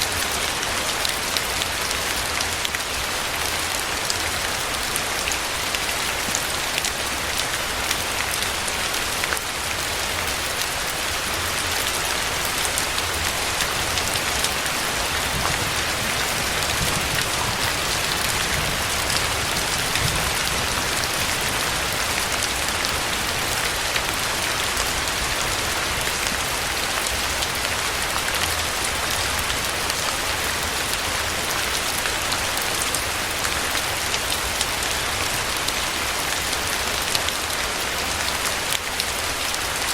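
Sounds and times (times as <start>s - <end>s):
rain hissing: 0.0s - 39.8s.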